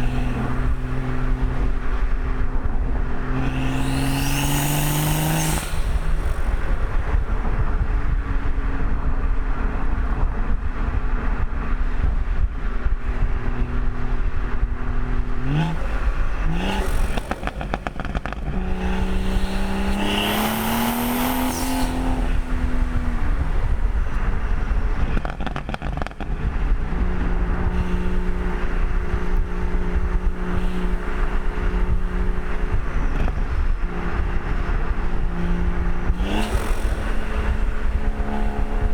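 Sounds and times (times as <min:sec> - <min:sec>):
car engine revving: 0:00.0 - 0:10.1, 0:10.9 - 0:38.9.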